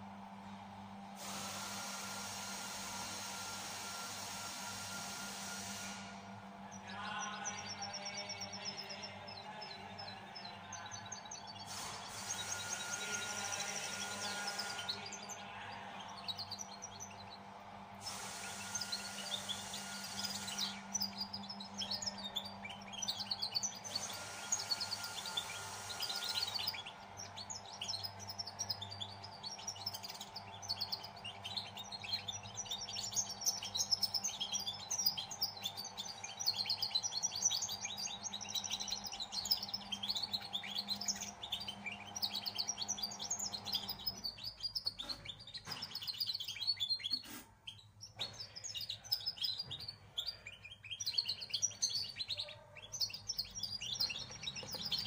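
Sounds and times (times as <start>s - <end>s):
young songbird twittering: 6.6s - 55.0s.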